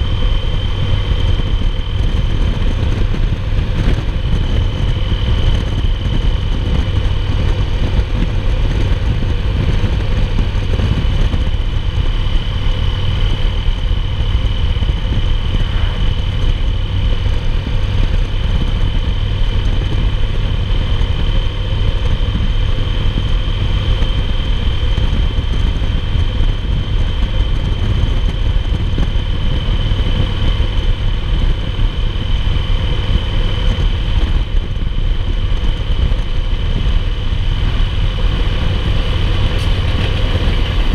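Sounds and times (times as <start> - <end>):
motorcycle engine cruising: 0.0 - 40.9
wind buffeting on microphone: 0.0 - 40.9.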